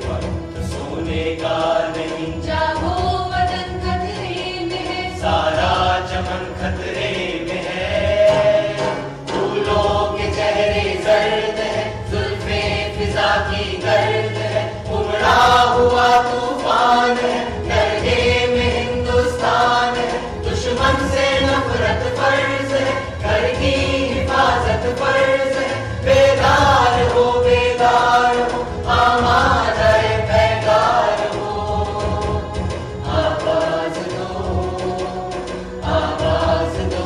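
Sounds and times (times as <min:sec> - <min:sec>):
instrumental backing with bass line: 0:00.0 - 0:37.0
voices singing a melody: 0:00.0 - 0:37.0.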